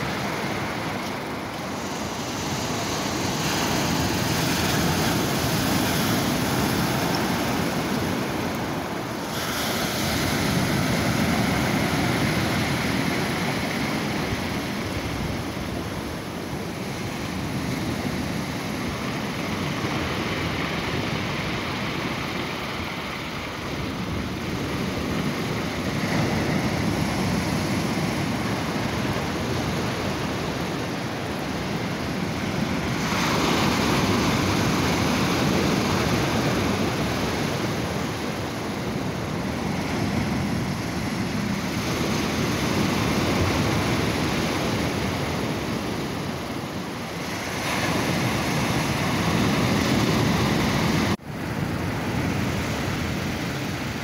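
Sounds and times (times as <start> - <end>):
waves breaking on pebble beach: 0.0 - 54.0.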